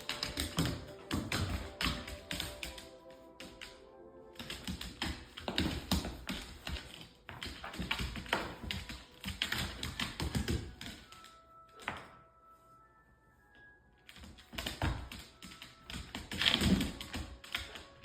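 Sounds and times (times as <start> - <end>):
faint music: 0.0 - 18.0.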